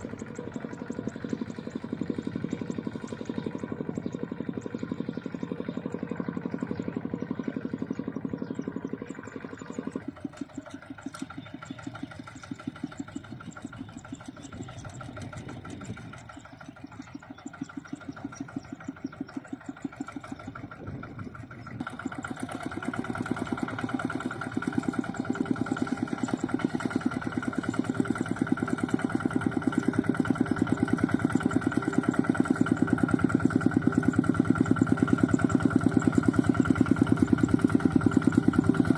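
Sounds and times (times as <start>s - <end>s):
tractor engine putter: 0.0s - 8.4s, 9.0s - 38.9s.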